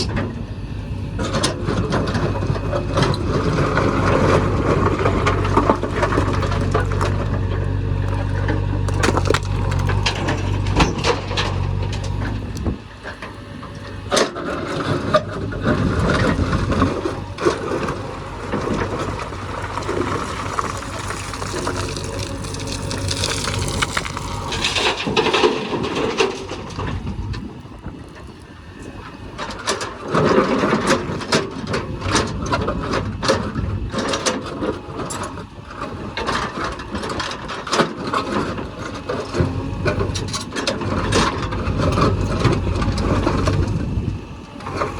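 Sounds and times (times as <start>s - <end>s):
diesel engine droning: 0.0s - 44.9s
loader bucket scraping earth and stones: 0.0s - 44.9s.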